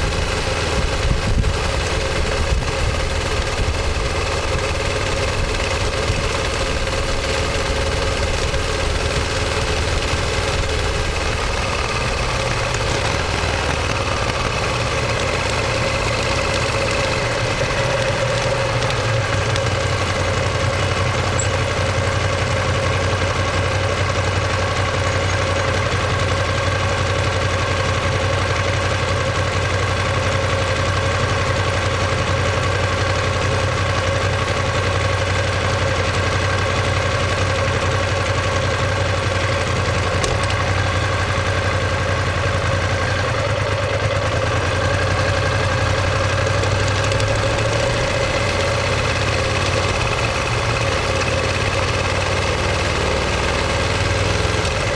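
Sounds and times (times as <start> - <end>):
motorcycle engine running steadily: 0.0 - 54.9.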